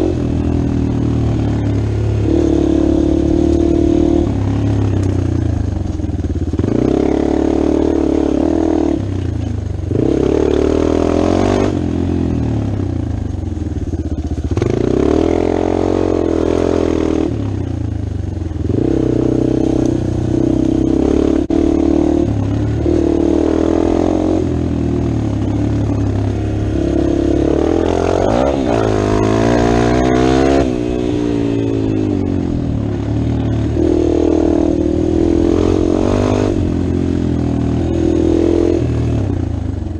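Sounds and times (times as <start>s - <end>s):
dirt bike engine revving: 0.0s - 13.1s, 13.8s - 17.8s, 18.5s - 39.6s.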